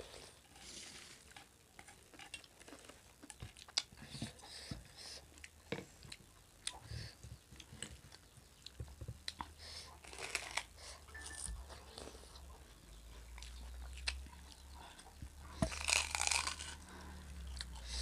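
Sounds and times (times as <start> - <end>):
chewing crunchy snacks: 0.3 - 18.0.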